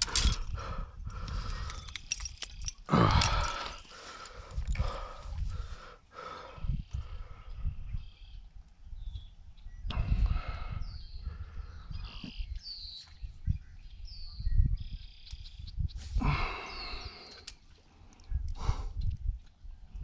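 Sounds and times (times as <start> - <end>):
birds chirping: 0.0 - 20.0
wind rumble on microphone: 0.0 - 20.0.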